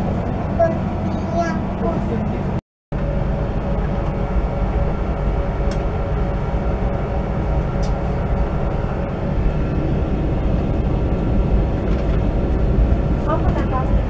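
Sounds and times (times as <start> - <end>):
train carriage rumble: 0.0 - 14.0.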